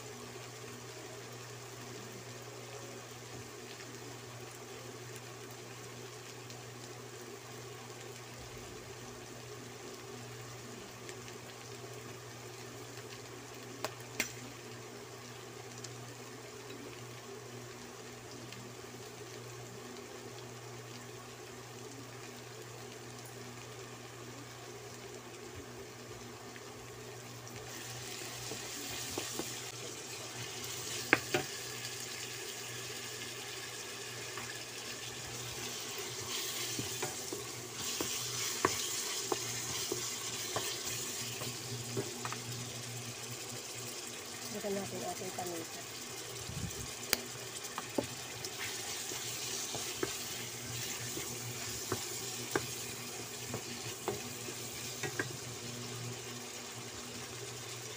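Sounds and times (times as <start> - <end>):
food sizzling in a wok: 0.0 - 57.9.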